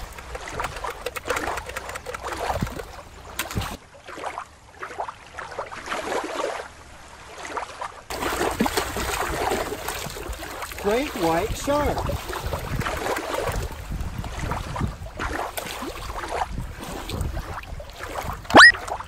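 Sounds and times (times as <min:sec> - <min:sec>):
muffled water sound: 0:00.0 - 0:19.0
shallow water splashing: 0:00.0 - 0:19.0.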